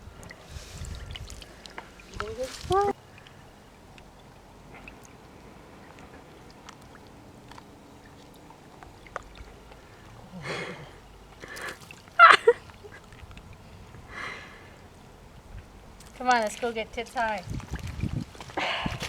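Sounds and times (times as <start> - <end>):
water sloshing in puddle: 0.0 - 19.0.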